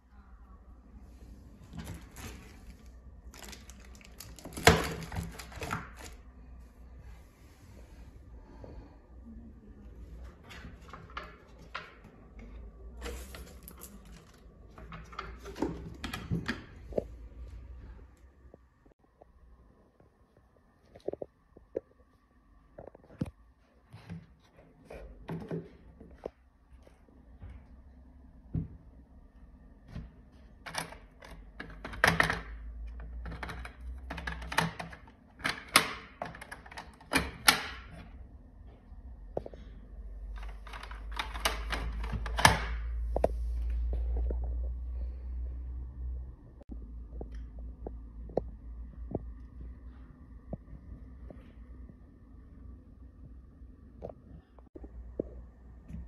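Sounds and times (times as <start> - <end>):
steady low hum: 0.0 - 35.4, 37.8 - 56.0.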